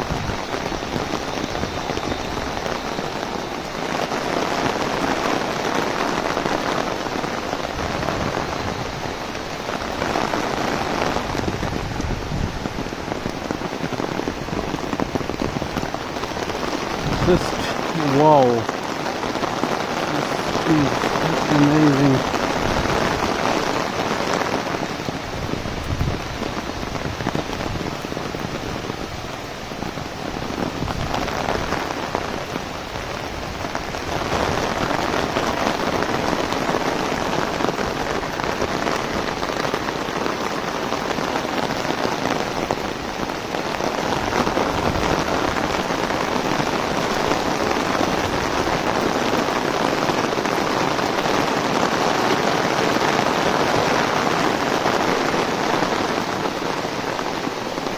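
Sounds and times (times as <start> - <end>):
heavy rain on an umbrella: 0.0 - 57.9.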